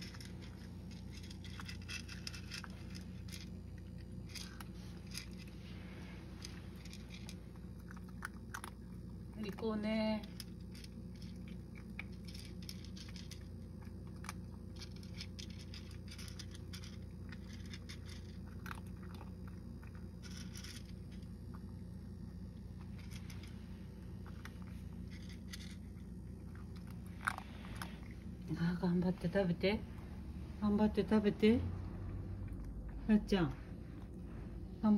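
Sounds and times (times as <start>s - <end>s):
cat crunching dry kibble: 0.0s - 30.3s
low hum: 0.0s - 34.9s.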